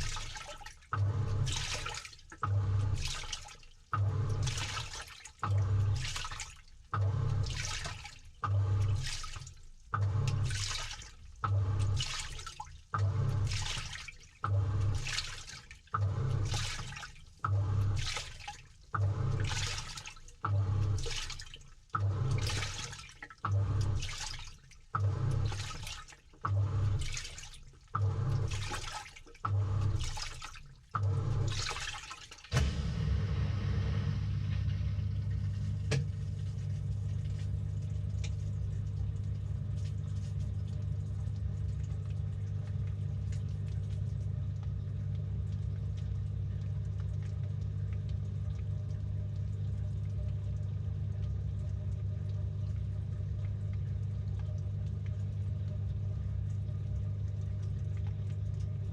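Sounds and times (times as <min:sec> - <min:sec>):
washing machine motor hum: 0:00.0 - 0:58.9
water surging and swishing: 0:00.0 - 0:58.9.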